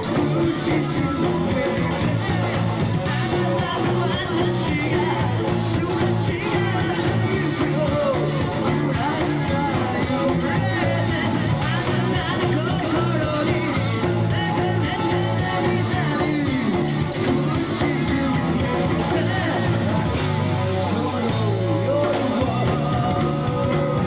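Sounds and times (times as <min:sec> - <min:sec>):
bass: 0:00.0 - 0:24.0
drums: 0:00.0 - 0:24.0
electric guitar: 0:00.0 - 0:24.0
person singing: 0:00.0 - 0:24.0.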